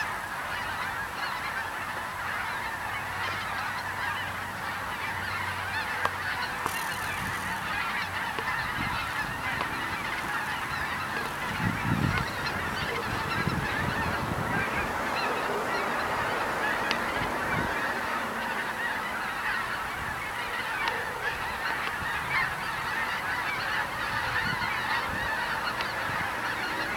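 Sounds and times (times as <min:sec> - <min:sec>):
geese honking: 0:00.0 - 0:26.9.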